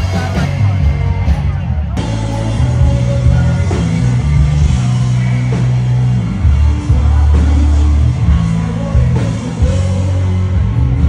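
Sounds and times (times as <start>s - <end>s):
bass line: 0.0s - 11.0s
rock music: 0.0s - 11.0s.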